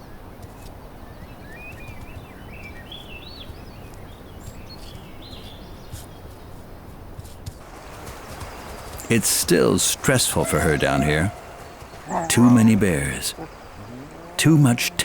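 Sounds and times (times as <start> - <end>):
songbird chirping: 0.0 - 7.0, 7.6 - 15.0.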